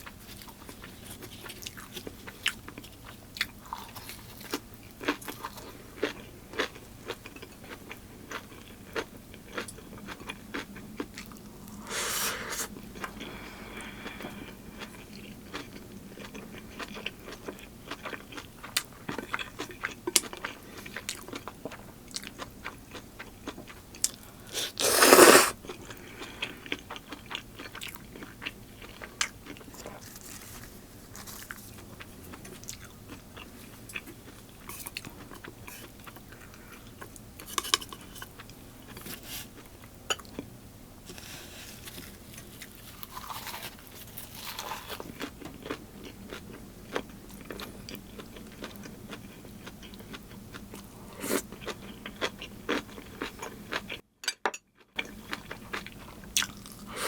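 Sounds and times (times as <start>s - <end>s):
person chewing crunchy food: 0.0s - 54.0s, 54.8s - 57.0s.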